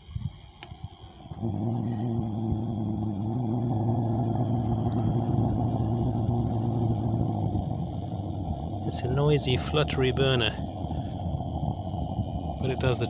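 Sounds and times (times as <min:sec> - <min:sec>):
gas burner fluttery hum: 0:00.0 - 0:13.0.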